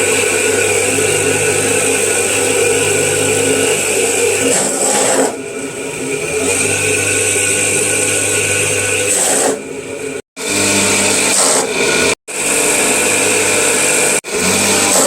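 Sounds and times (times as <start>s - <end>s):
machine humming and grinding: 0.0s - 15.0s.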